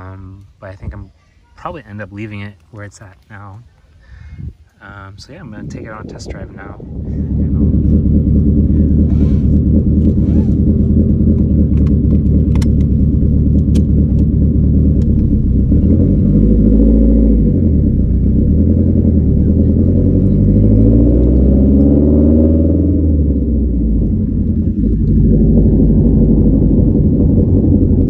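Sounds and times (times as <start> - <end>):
car engine revving: 5.3 - 28.0.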